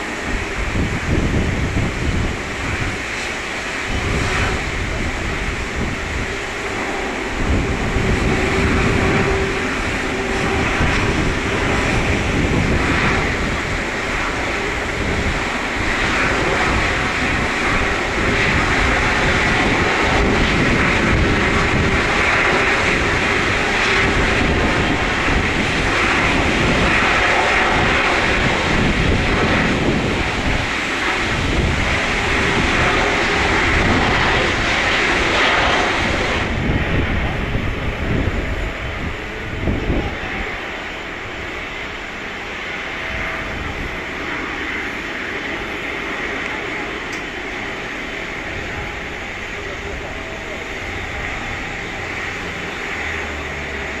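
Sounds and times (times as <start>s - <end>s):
jet engines running: 0.0s - 54.0s
wind buffeting microphone: 0.0s - 54.0s.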